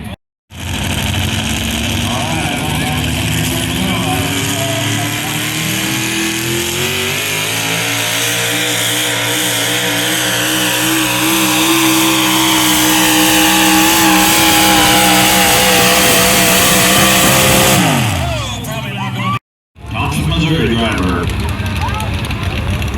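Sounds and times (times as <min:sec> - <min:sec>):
vehicle engine revving under load: 0:00.0 - 0:18.8.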